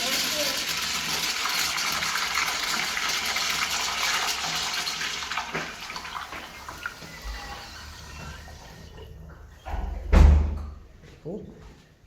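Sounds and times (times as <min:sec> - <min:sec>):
urinal flushing: 0:00.0 - 0:10.0.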